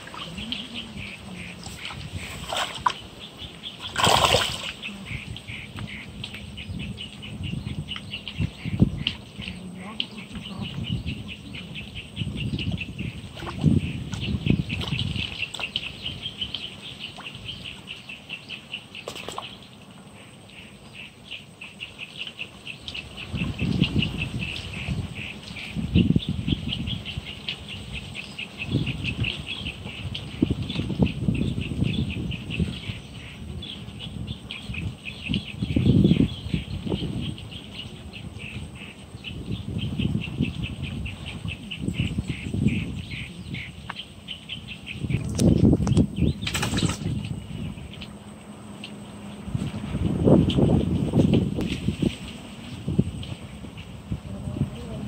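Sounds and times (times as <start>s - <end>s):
high-pitched chirring wildlife chorus: 0.0s - 49.5s.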